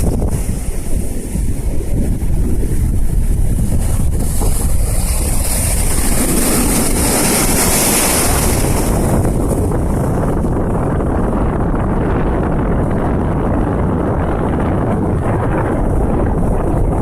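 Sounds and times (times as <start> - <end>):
sea waves rushing: 0.0 - 17.0
wind buffeting microphone: 0.0 - 17.0.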